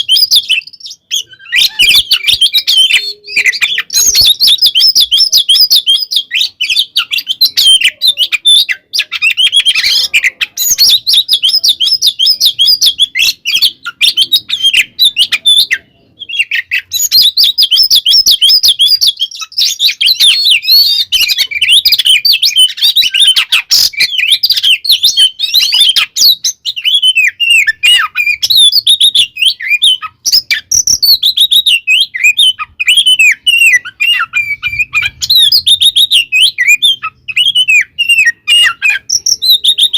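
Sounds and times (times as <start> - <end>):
songbird singing rapidly: 0.0 - 39.9.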